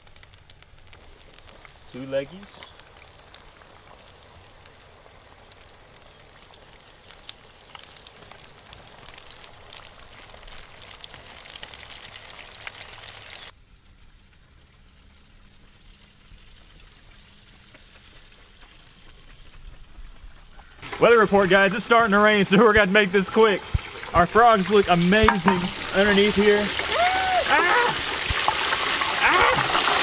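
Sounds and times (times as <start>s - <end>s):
oil sizzling and popping in fryer: 0.0s - 19.5s, 20.8s - 30.0s.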